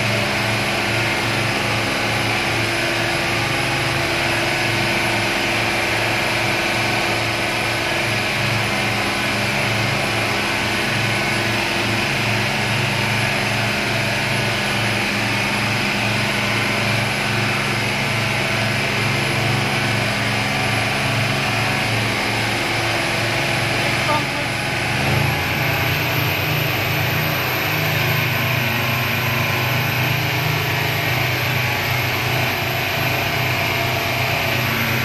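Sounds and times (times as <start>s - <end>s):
speedboat engine running: 0.0s - 35.0s.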